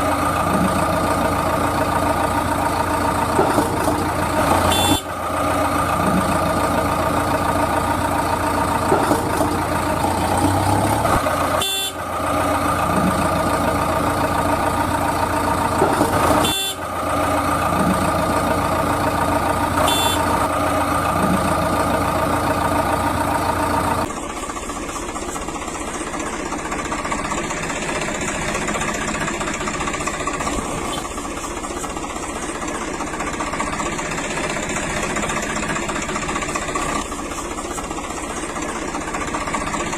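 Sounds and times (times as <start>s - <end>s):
thin engine sound: 0.0s - 39.9s
vehicle engine running: 0.0s - 39.9s.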